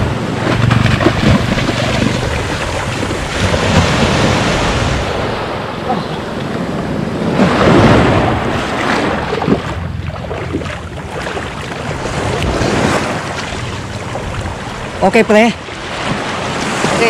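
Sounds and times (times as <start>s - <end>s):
small waves breaking: 0.0s - 17.0s
swimmer splashing: 0.0s - 17.0s
wind buffeting microphone: 0.0s - 17.0s.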